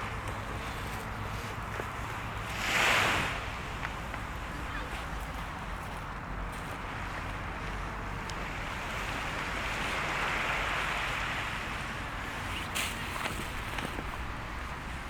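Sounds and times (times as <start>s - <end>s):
surf washing onto shore: 1.4s - 5.7s, 6.8s - 15.0s.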